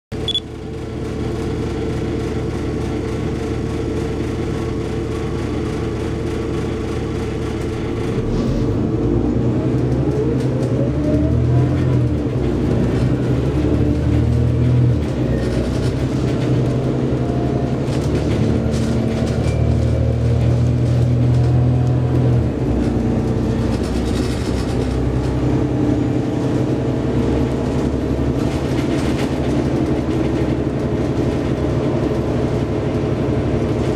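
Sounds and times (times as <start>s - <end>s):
bus engine running: 0.1s - 33.9s.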